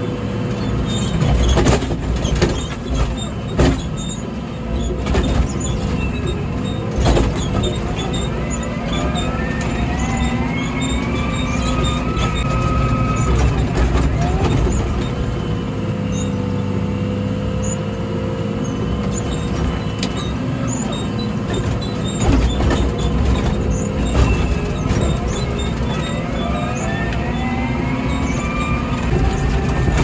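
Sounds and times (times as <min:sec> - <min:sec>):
diesel engine working under load: 0:00.0 - 0:30.0
knocks and clunks: 0:00.9 - 0:15.4, 0:19.0 - 0:27.4, 0:28.2 - 0:30.0.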